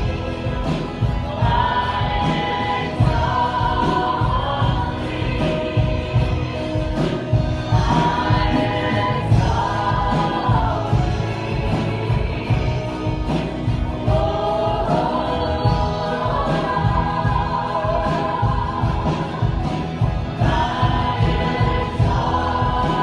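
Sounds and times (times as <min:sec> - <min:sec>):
full band playing: 0:00.0 - 0:23.0
group of singers: 0:00.0 - 0:23.0
steady drum beat: 0:00.0 - 0:23.0.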